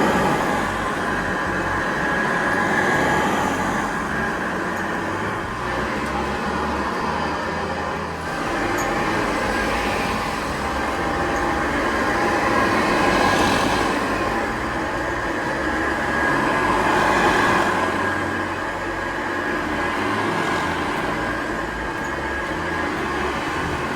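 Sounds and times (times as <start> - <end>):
vacuum cleaner running: 0.0 - 23.9.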